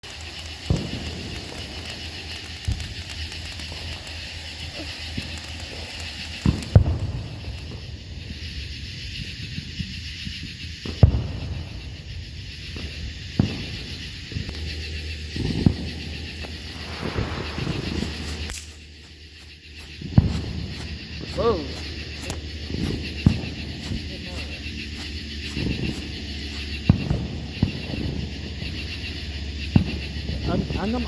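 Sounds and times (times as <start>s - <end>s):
fireworks popping: 0.0s - 31.0s
outdoor background hiss: 0.0s - 31.0s.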